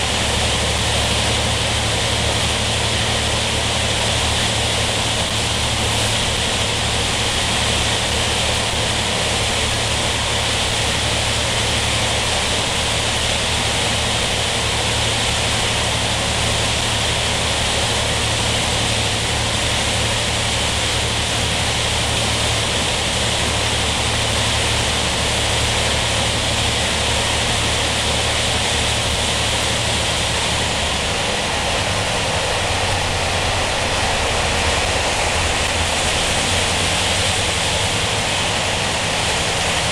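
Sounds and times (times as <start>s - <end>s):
train carriage rumbling on rails: 0.0s - 39.9s.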